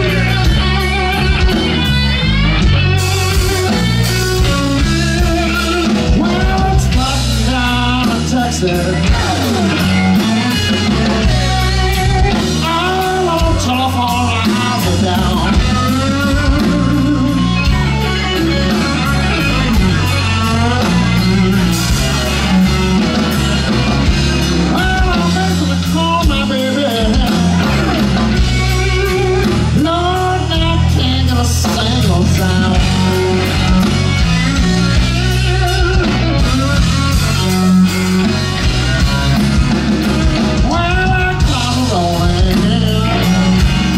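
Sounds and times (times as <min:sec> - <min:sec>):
bass guitar: 0:00.0 - 0:43.9
drums: 0:00.0 - 0:43.9
electric guitar lead notes: 0:00.0 - 0:43.9.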